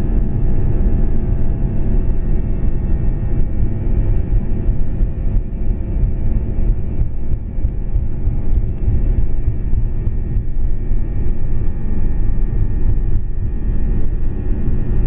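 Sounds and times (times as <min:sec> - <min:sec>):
jet engine rumble in cabin: 0:00.0 - 0:15.0
jet engine whine: 0:00.0 - 0:15.0.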